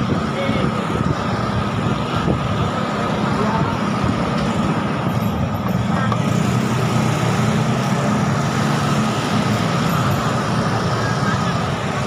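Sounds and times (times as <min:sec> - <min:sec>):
scooter engines humming: 0:00.0 - 0:12.0.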